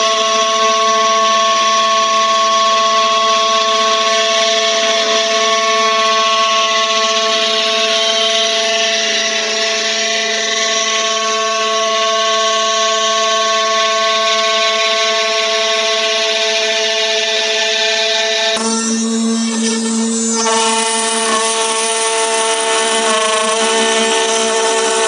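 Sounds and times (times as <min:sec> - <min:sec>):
router motor whine: 0:00.0 - 0:25.0.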